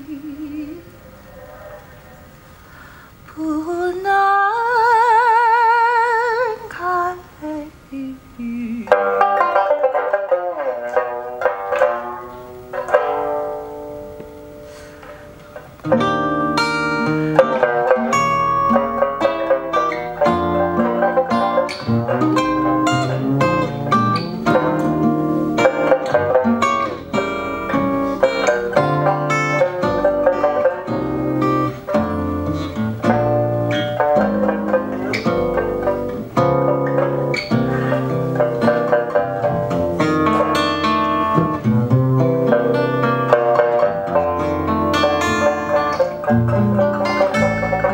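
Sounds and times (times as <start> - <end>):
lute guitar and bass jazz trio: 8.8 - 47.9
lone plucked note ringing: 8.9 - 47.9.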